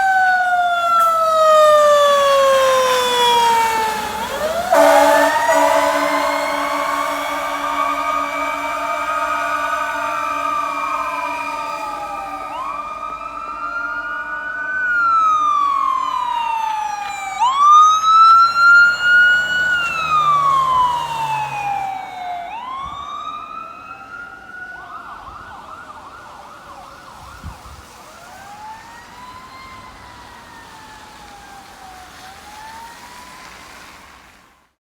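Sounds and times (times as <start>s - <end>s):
second siren wailing: 0.0s - 34.1s
fire engine siren wailing: 0.0s - 34.8s.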